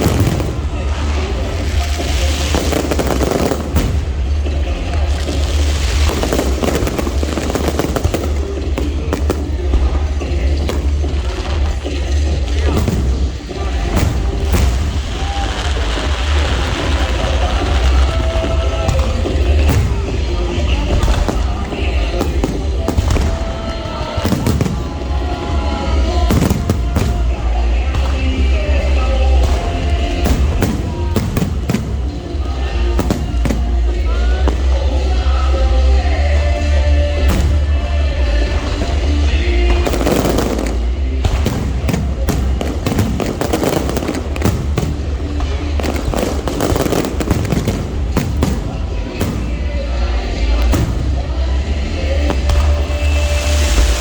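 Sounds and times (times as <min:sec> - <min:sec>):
fireworks bangs and crackles: 0:00.0 - 0:54.0
loud music with heavy bass: 0:00.0 - 0:54.0.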